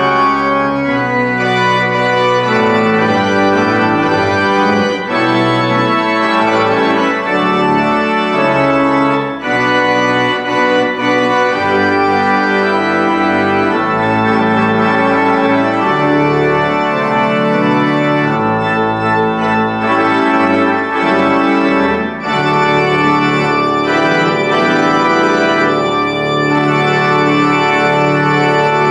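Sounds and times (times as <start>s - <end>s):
pipe organ chords: 0.0s - 28.9s.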